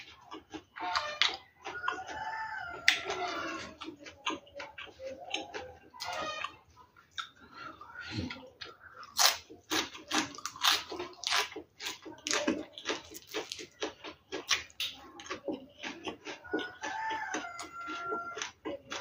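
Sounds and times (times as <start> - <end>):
person chewing and lip-smacking: 0.0 - 19.0.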